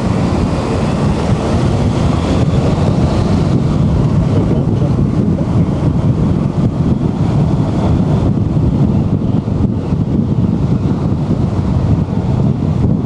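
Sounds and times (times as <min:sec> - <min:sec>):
car driving rumble: 0:00.0 - 0:13.0
wind buffeting microphone: 0:00.0 - 0:13.0.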